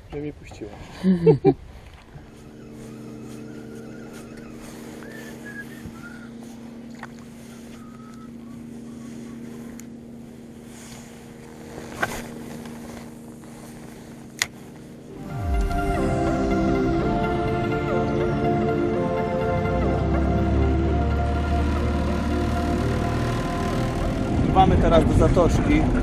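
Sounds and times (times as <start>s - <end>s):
outboard motor running: 2.1s - 26.0s.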